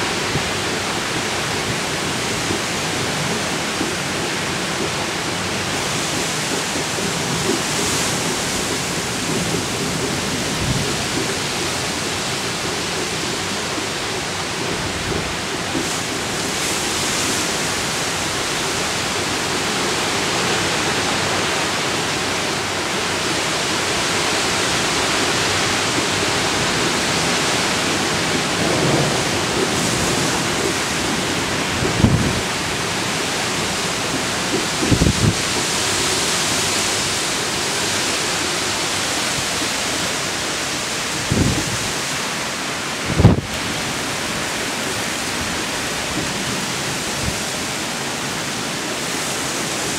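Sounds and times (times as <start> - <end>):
gusting wind: 0.0 - 49.9
heavy rain: 0.0 - 49.9.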